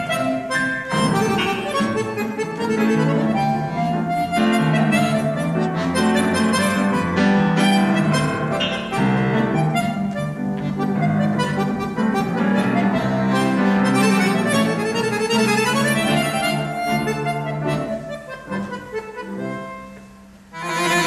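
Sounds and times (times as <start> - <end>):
accordion: 0.0 - 21.0
grand piano: 0.0 - 21.0.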